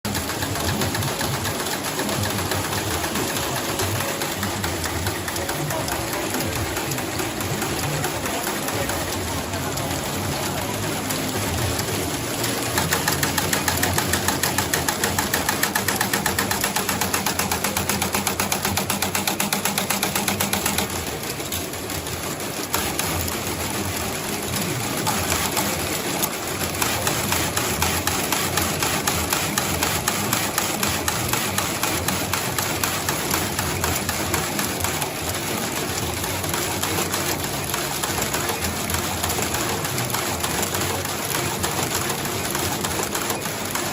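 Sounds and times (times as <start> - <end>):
sewing machine running: 0.1 - 43.9.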